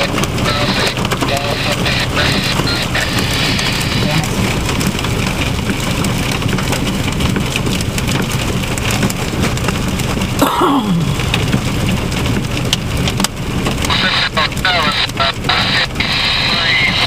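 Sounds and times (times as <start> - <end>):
hailstones striking: 0.0 - 17.0.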